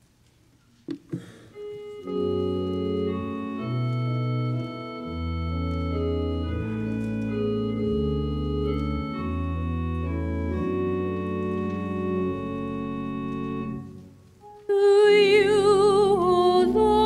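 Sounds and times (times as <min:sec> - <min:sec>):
church organ chords: 0:01.4 - 0:17.0
organ pedal bass notes: 0:01.5 - 0:14.2, 0:15.2 - 0:17.0.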